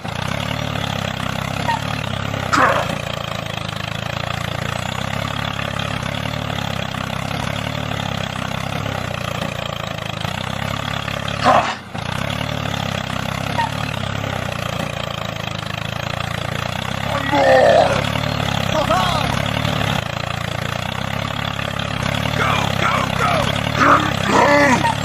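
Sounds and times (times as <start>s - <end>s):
motor running steadily: 0.0s - 25.0s.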